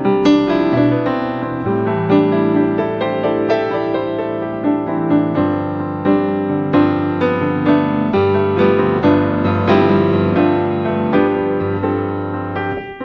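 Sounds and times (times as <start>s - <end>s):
classical piano music: 0.0s - 13.0s.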